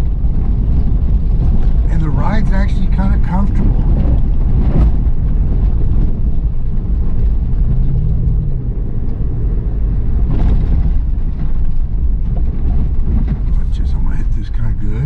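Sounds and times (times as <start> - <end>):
vehicle driving on dirt road: 0.0 - 15.0.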